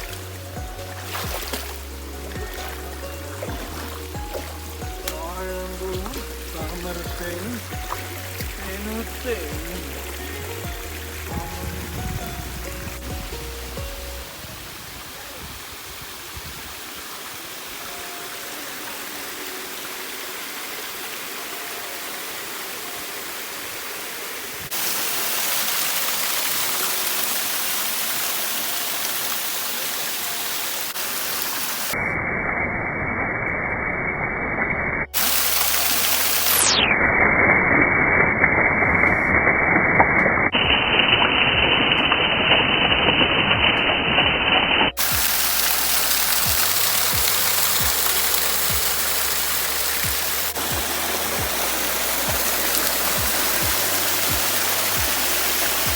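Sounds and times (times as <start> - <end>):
water rushing down waterfall: 0.0 - 32.2, 35.2 - 55.9.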